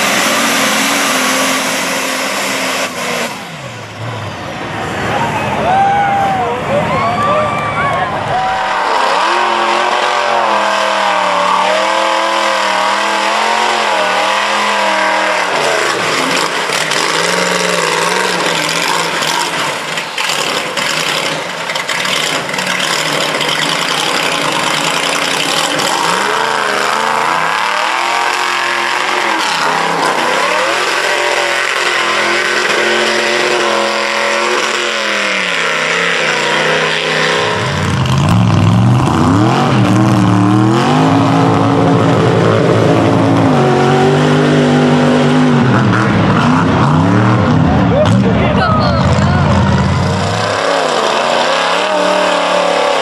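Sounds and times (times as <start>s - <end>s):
truck engine revving: 0.0s - 5.6s, 8.1s - 53.0s.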